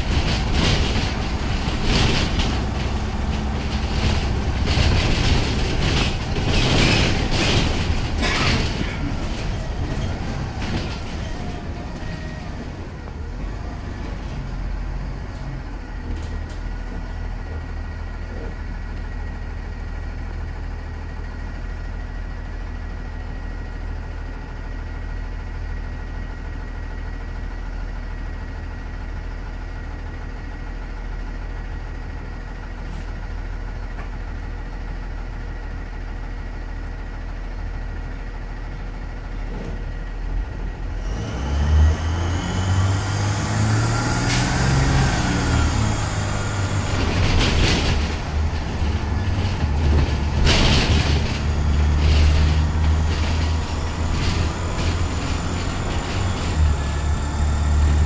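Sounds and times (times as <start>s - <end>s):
bus engine idling hum: 0.0s - 58.0s
bus road noise and rattling: 0.0s - 58.0s.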